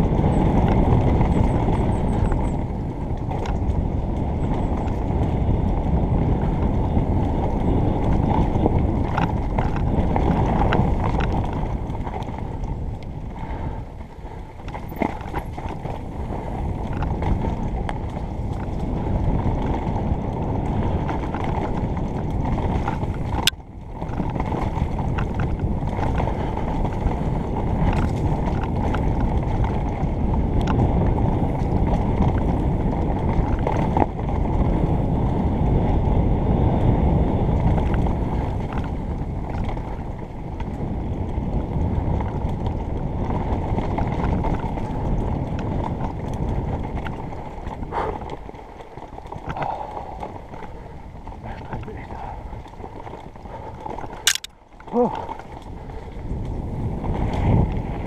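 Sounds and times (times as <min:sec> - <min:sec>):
bike clicks and rattles: 0:00.0 - 0:58.0
wind and tyre rumble: 0:00.0 - 0:58.0.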